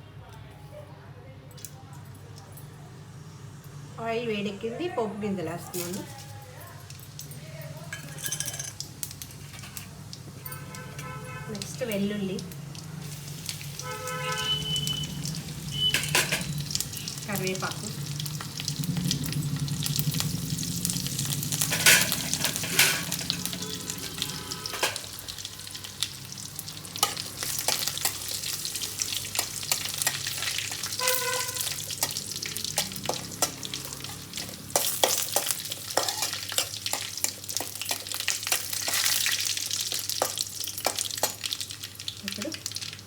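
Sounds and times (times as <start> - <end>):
spices sizzling in hot oil: 5.6 - 43.0.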